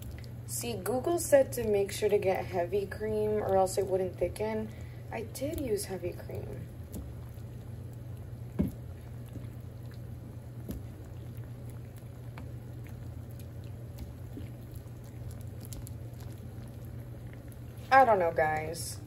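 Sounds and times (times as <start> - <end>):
sauce simmering and bubbling: 0.0 - 18.4
steady low hum: 0.0 - 19.0.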